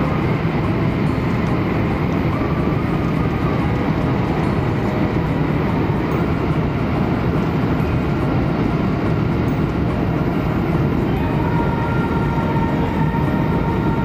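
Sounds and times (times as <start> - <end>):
faint high whine: 0.0 - 14.0
train cabin rumble: 0.0 - 14.0.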